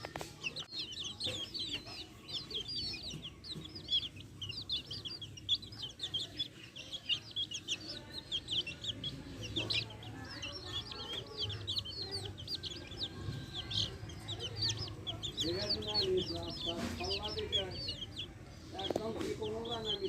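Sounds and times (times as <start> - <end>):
chicks peeping: 0.0 - 20.0
hens clucking: 0.0 - 20.0.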